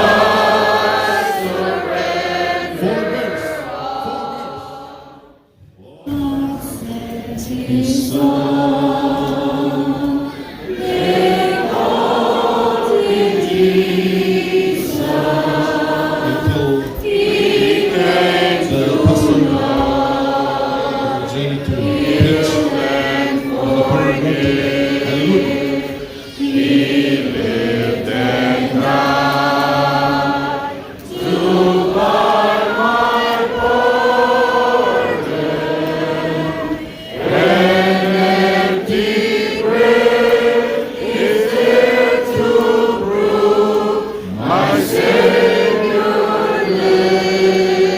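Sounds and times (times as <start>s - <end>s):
congregation singing a hymn: 0.0s - 47.9s.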